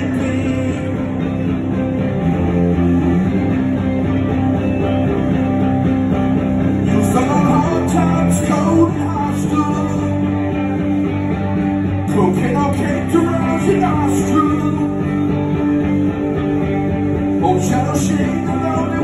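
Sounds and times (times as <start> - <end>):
bass guitar: 0.0 - 19.0
drums: 0.0 - 19.0
electric guitars: 0.0 - 19.0.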